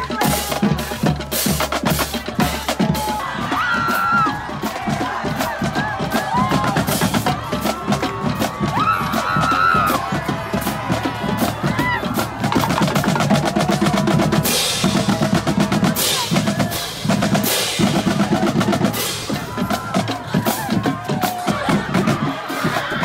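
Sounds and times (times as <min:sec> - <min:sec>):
snare drum rolls: 0:00.0 - 0:23.0.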